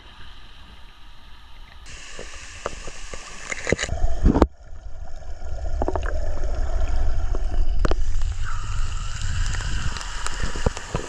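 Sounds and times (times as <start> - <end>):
running water gurgling and splashing: 0.0 - 11.0
low rumble: 1.9 - 11.0.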